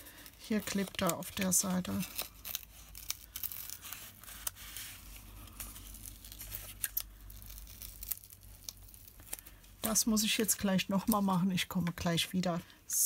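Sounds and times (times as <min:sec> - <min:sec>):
cardstock crackling and rustling: 0:00.0 - 0:12.7.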